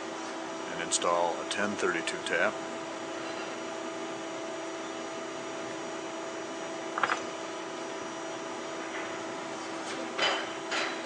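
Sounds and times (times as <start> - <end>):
workshop machinery humming: 0.0 - 11.0.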